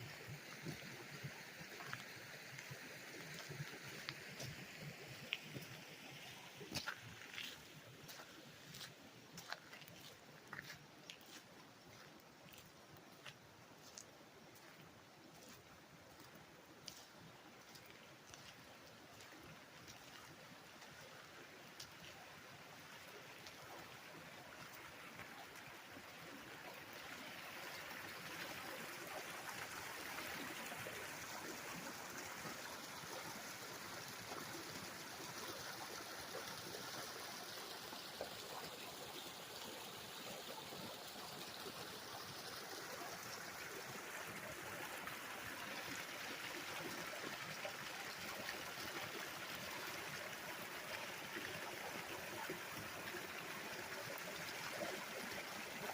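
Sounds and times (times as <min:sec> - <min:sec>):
stream flowing and trickling: 0:00.0 - 0:55.9.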